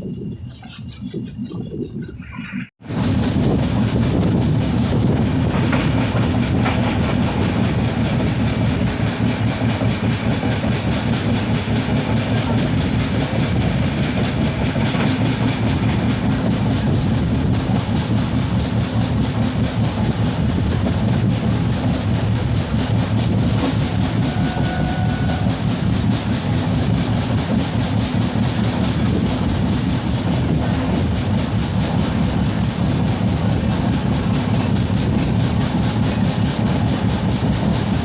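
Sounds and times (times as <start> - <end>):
train coaches rumbling: 0.0 - 38.0
wheels clattering on track: 0.0 - 38.0.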